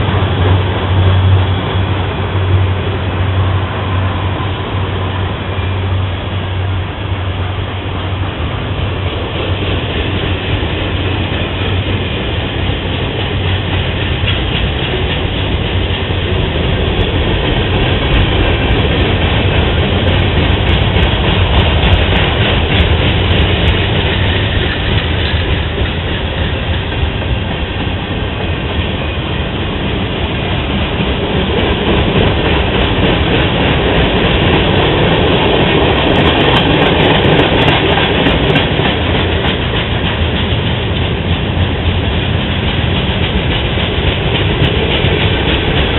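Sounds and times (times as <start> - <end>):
train cars rolling on rails: 0.0 - 45.9.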